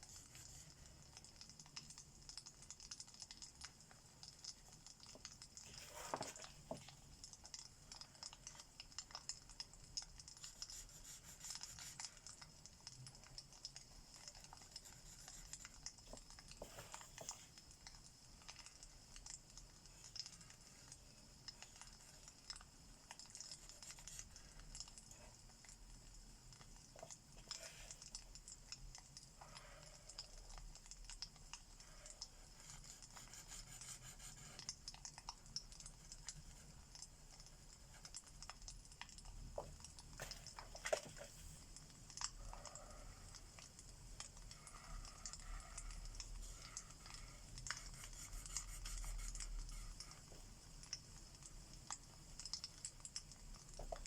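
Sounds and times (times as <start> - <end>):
steady hiss: 3.7 - 54.0.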